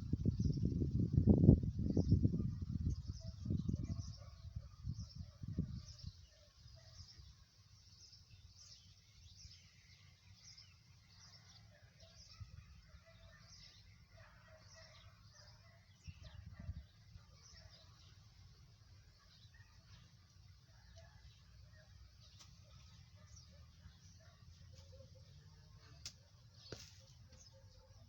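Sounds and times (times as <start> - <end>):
faint bird chirps: 1.9 - 28.0.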